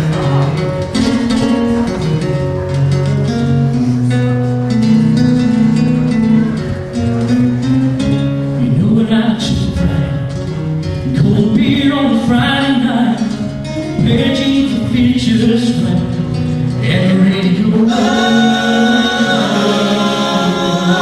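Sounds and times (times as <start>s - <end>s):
guitar accompaniment: 0.0s - 21.0s
person singing country song: 0.0s - 21.0s.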